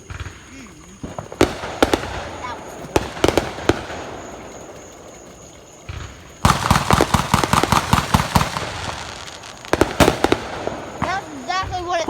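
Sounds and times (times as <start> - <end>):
fireworks dull thump: 0.0 - 12.0
fireworks loud bangs: 0.0 - 12.0
fireworks popping and crackling: 0.0 - 12.0.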